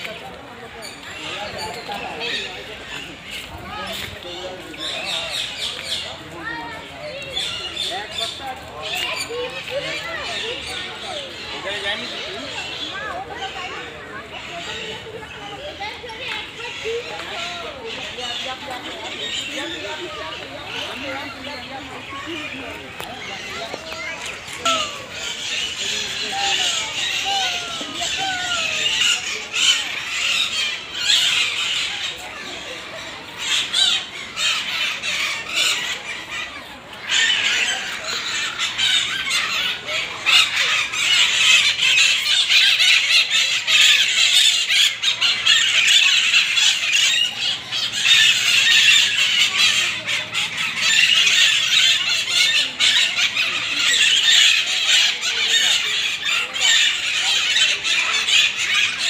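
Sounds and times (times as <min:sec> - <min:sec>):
caged birds squawking and screeching: 0:00.0 - 0:59.0.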